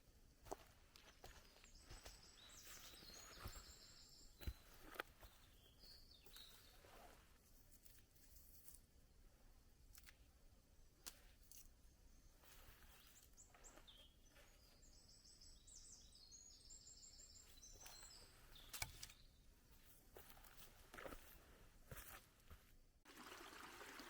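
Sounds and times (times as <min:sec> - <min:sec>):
faint forest ambience: 0:00.0 - 0:24.0.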